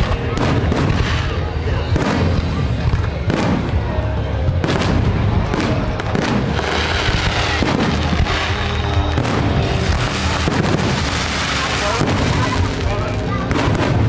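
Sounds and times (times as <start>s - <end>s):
fireworks crackling: 0.0s - 14.0s
music playing: 0.0s - 14.0s.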